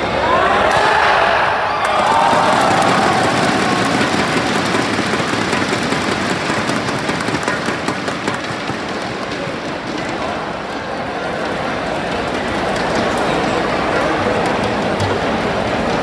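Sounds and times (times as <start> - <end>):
crowd cheering: 0.0 - 16.0
people clapping rapidly: 1.8 - 16.0.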